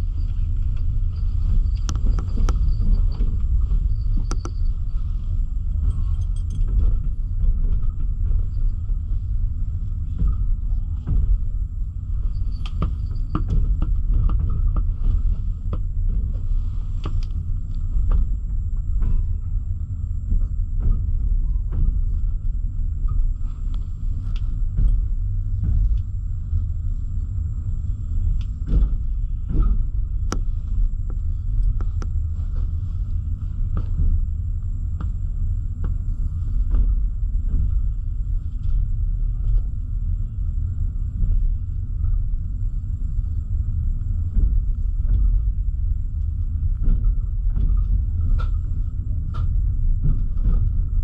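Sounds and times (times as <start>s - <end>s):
train coach rumbling: 0.0s - 51.0s.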